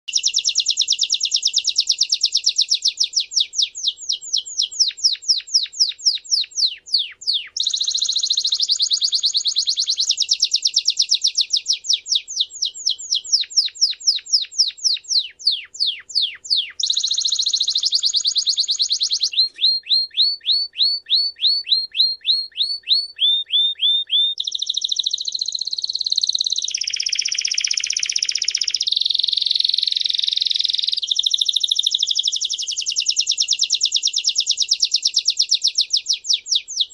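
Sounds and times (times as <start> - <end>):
canary singing trills and whistles: 0.1 - 36.9.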